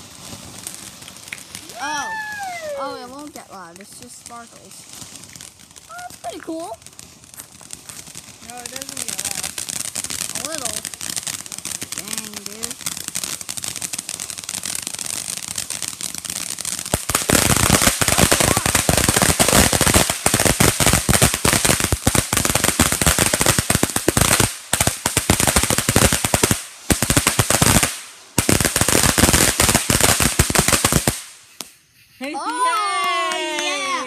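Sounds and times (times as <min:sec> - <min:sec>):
firework fountain hissing: 0:00.0 - 0:34.0
rapid crackling pops: 0:00.6 - 0:01.8, 0:03.2 - 0:31.8.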